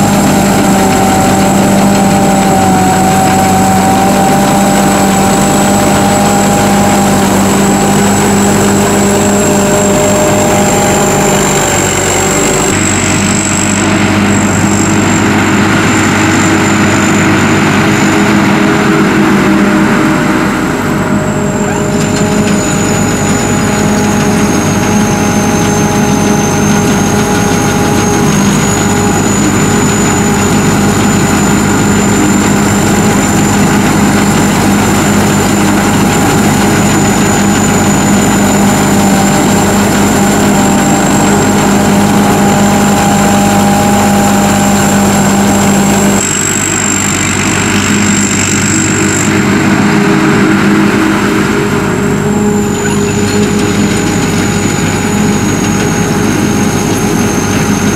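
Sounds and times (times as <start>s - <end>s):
combine harvester engine hum: 0.0s - 57.9s.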